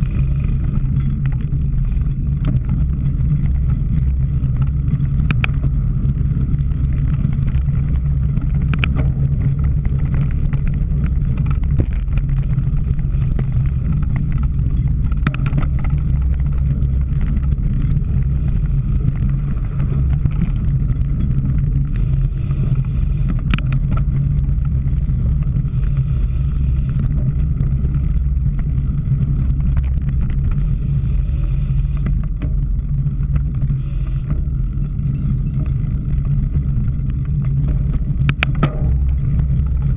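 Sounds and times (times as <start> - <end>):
bike rattles: 0.0 - 39.9
tyres and wind rumbling: 0.0 - 39.9.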